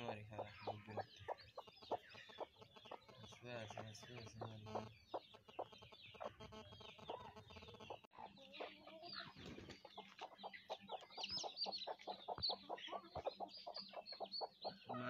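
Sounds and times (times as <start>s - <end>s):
chickens clucking: 0.0s - 15.0s
high arching calls: 0.0s - 15.0s.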